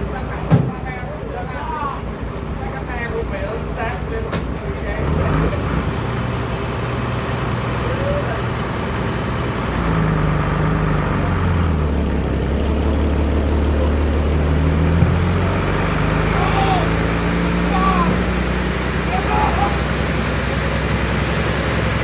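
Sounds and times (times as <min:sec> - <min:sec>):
sawmill machinery droning: 0:02.0 - 0:22.0.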